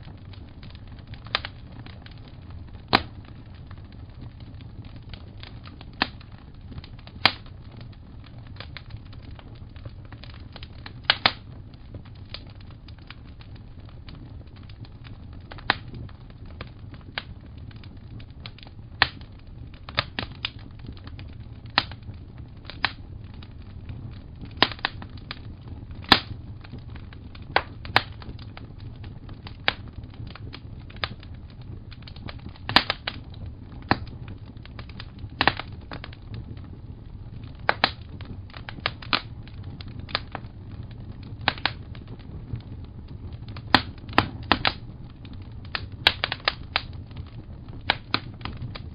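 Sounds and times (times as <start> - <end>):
low steady rumble: 0.0 - 48.9
wood fire crackling: 0.0 - 48.9.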